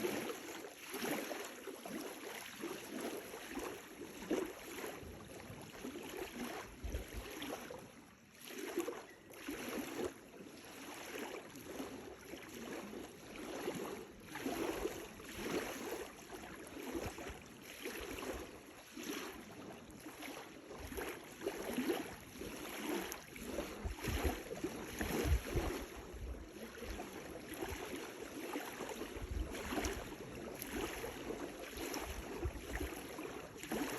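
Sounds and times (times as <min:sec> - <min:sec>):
lake waves lapping on shore: 0:00.0 - 0:33.9.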